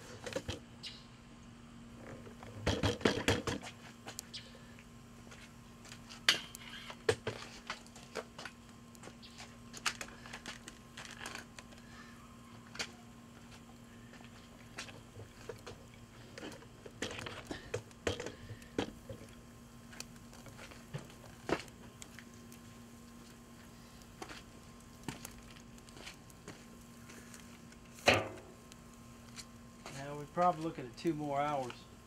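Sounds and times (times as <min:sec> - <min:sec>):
faint hum: 0:00.0 - 0:32.0.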